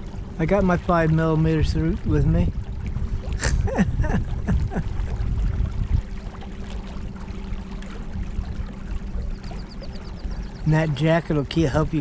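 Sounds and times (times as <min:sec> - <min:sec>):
low wind: 0:00.0 - 0:12.0
water rumble: 0:00.0 - 0:12.0.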